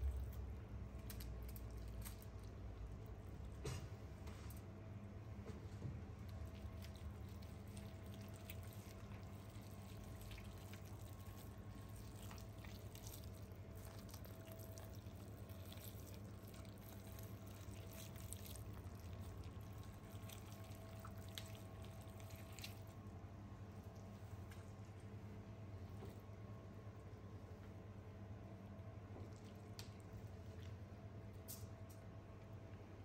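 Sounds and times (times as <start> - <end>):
wet squishing and tearing of meat: 0.0 - 4.8, 6.0 - 26.0, 28.4 - 31.9
steady low hum: 0.0 - 33.0.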